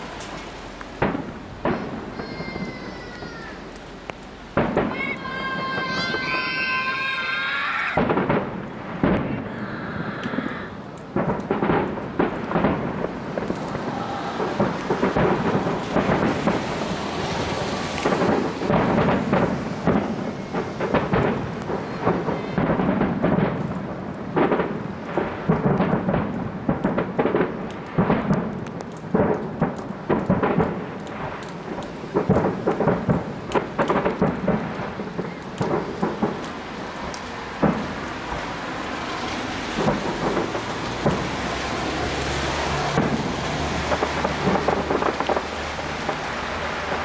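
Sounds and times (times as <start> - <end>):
fireworks exploding: 0.0 - 47.0
rolling rumble: 0.0 - 47.0.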